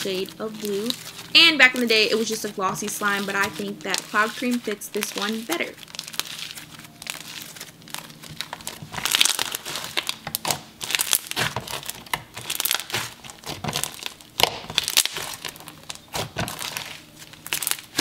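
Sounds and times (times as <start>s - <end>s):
slime crackling and popping: 0.0s - 18.0s.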